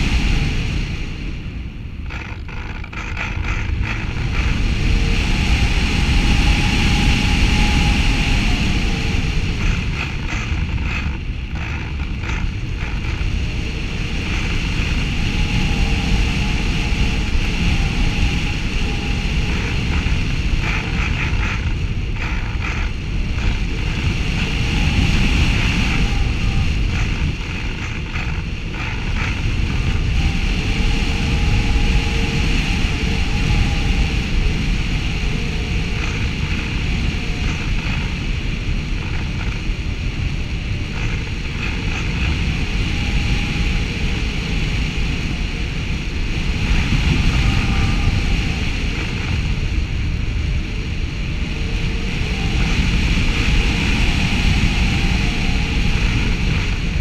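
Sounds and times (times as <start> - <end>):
faint whine: 0.0 - 57.0
wind rumble on microphone: 0.0 - 57.0.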